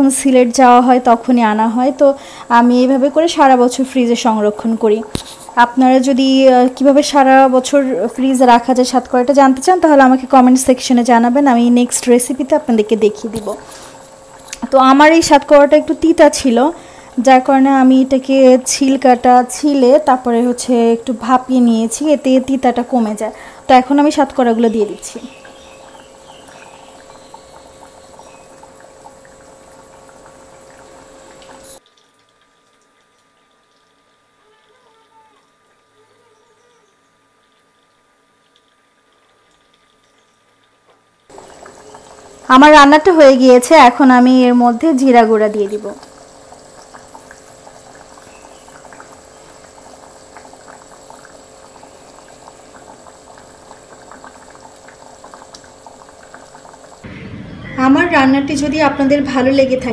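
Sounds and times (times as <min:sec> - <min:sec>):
curry bubbling in a pot: 0:00.0 - 0:34.7, 0:37.2 - 0:57.1
faint steady hum: 0:00.0 - 0:59.9.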